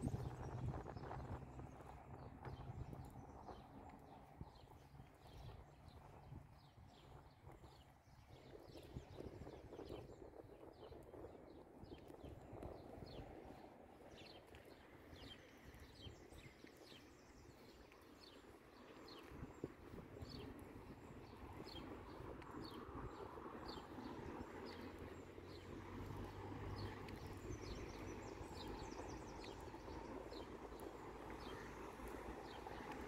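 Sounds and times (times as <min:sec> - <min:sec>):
low outdoor rumble: 0:00.0 - 0:09.5, 0:11.1 - 0:33.0
small birds chirping: 0:00.0 - 0:33.0.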